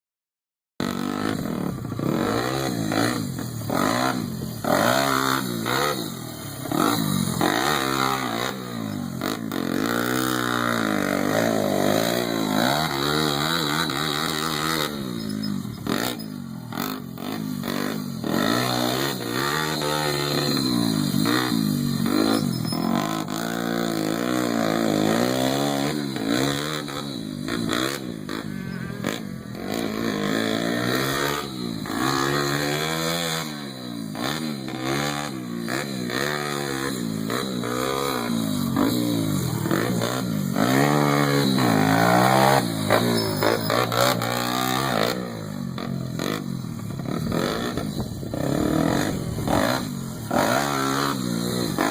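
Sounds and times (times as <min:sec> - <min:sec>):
motorbike engine revving: 0:00.8 - 0:51.9.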